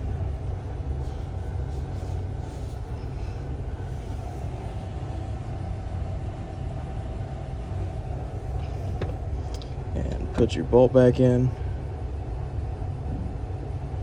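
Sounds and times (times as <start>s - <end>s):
low machinery rumble: 0.0s - 14.0s.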